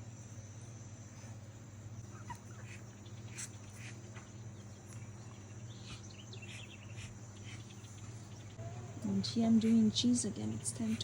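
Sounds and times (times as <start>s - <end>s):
high insect drone: 0.0s - 11.0s
low steady hum: 0.0s - 11.0s.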